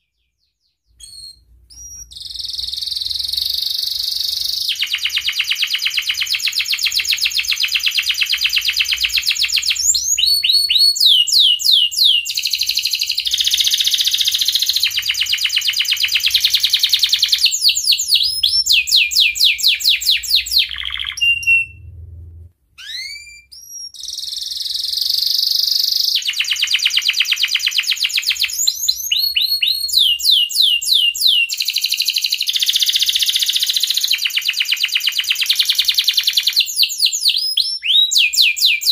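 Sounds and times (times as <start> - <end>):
canary singing trills: 1.0 - 21.9, 22.8 - 38.9.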